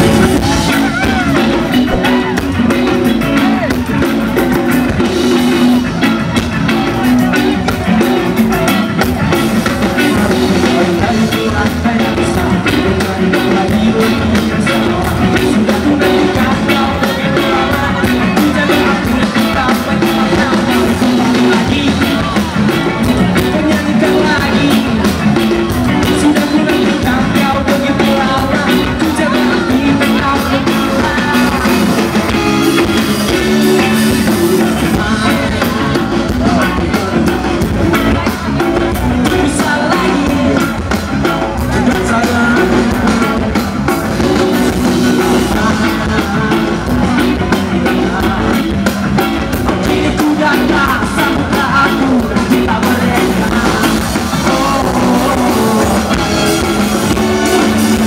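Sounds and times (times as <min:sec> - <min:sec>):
drum kit cymbal beat: 0:00.0 - 0:58.0
electric guitars: 0:00.0 - 0:58.0
person singing: 0:00.0 - 0:58.0.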